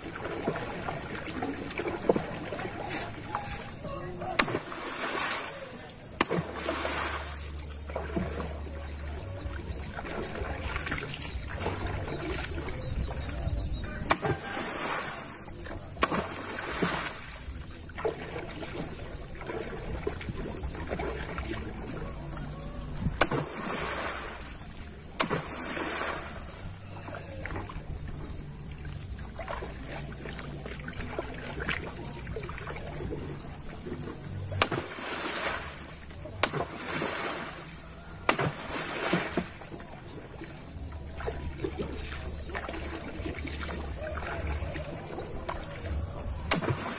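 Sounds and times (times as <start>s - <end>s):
paddle knocking hull: 0.0s - 46.9s
paddle splashing water: 0.0s - 46.9s.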